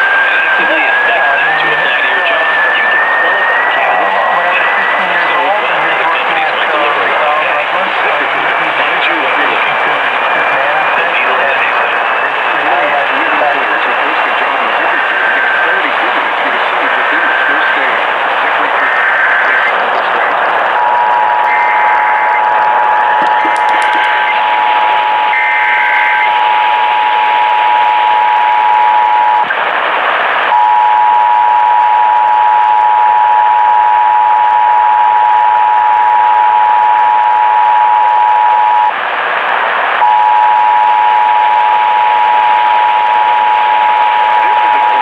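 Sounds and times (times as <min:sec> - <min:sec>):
radio hiss: 0:00.0 - 0:30.6, 0:33.7 - 0:45.0.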